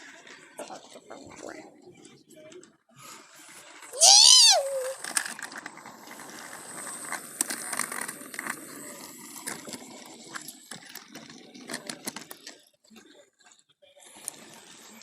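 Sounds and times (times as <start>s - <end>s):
toy train plastic clicks and rattles: 2.0s - 15.0s.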